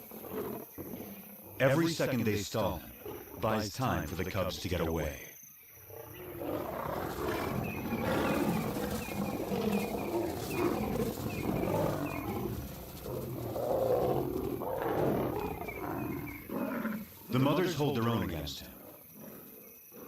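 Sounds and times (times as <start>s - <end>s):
lions snarling and roaring: 0.0s - 4.8s, 5.8s - 20.0s.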